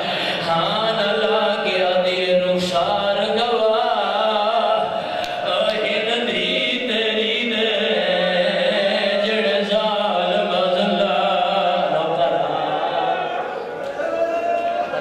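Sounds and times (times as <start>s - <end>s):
man chanting into a microphone: 0.0s - 13.6s.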